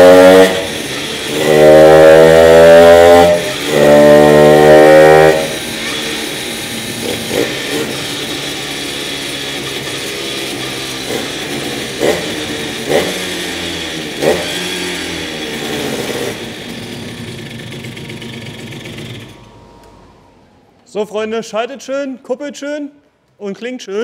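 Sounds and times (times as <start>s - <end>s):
two-stroke moped engine revving: 0.0s - 20.4s.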